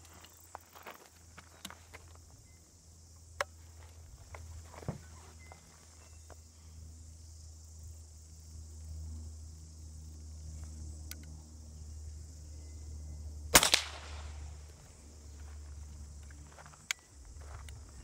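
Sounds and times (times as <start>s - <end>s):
insects chirring: 0.0s - 18.0s
low steady hum: 0.0s - 18.0s.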